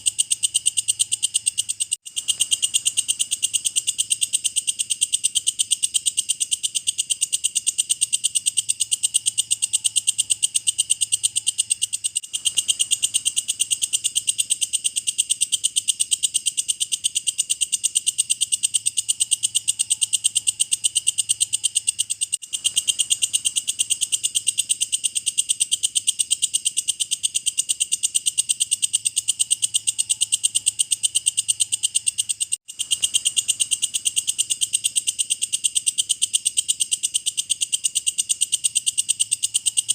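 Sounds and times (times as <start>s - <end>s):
insect pulsing trill: 0.0s - 39.9s.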